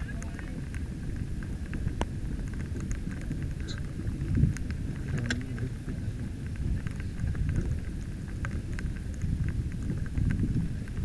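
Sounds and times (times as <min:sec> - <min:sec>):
faint ticks: 0:00.0 - 0:11.0
water noise: 0:00.0 - 0:11.0
wind rumble: 0:00.0 - 0:11.0.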